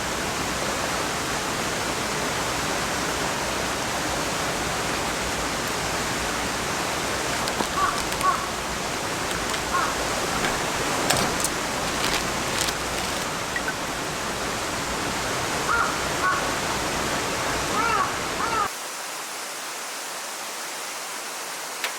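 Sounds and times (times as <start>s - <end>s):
flowing water: 0.0s - 18.7s.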